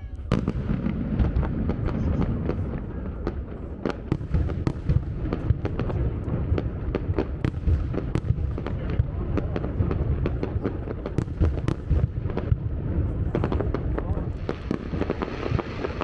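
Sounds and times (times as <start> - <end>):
fireworks bangs and cracks: 0.0 - 16.0.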